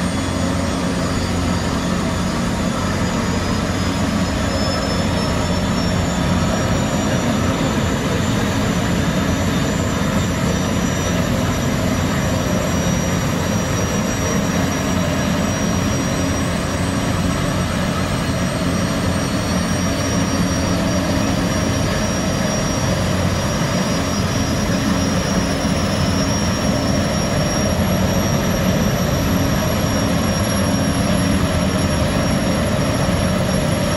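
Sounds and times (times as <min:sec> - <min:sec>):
gas turbines whining: 0:00.0 - 0:33.9.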